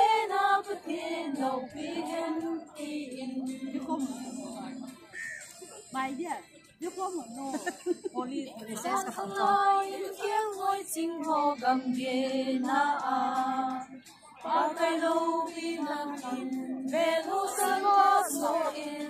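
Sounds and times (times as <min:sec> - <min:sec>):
women singing unaccompanied: 0:00.0 - 0:05.1, 0:05.9 - 0:19.0.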